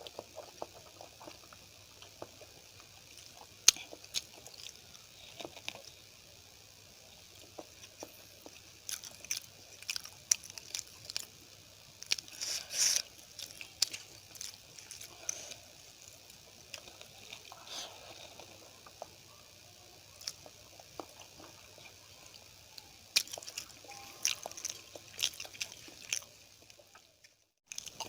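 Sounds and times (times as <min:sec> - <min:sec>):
person chewing food: 0:00.0 - 0:06.2, 0:07.4 - 0:19.2, 0:20.2 - 0:22.5, 0:23.1 - 0:28.0.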